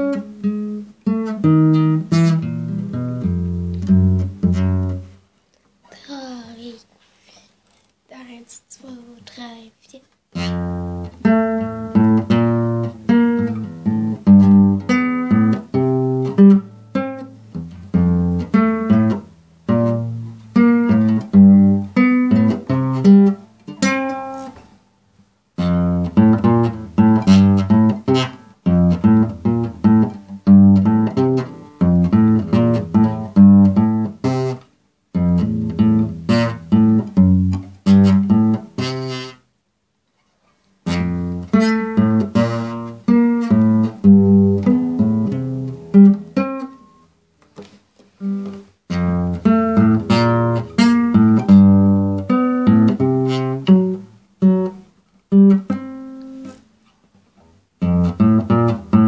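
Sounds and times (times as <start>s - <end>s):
acoustic guitar chords: 0.0s - 5.3s, 8.1s - 39.6s, 40.8s - 56.7s, 57.8s - 59.0s.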